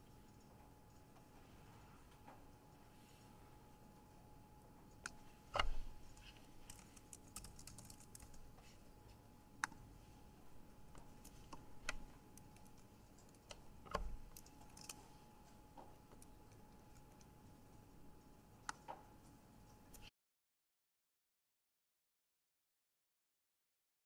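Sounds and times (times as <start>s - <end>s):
faint steady hum: 0.0s - 20.1s.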